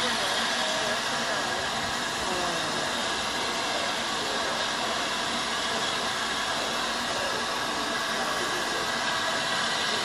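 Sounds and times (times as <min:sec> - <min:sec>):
steam locomotive hissing steam: 0:00.0 - 0:10.0.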